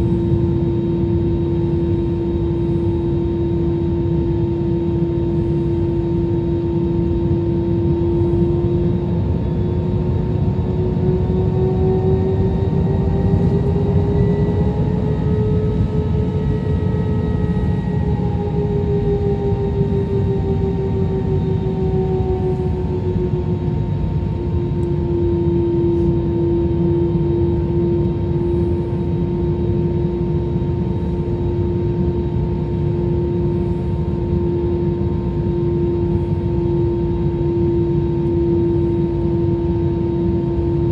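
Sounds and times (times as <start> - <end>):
jet engine noise in cabin: 0.0 - 40.9.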